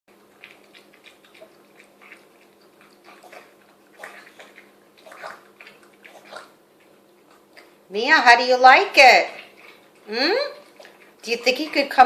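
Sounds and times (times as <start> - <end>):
dog slurping soup: 0.1 - 7.9, 8.8 - 12.0.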